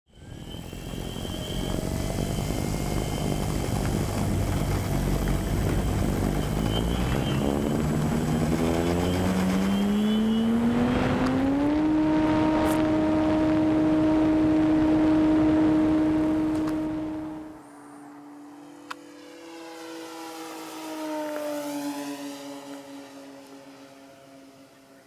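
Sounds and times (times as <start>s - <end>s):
model plane motor and propeller: 0.1s - 17.7s, 18.4s - 25.0s.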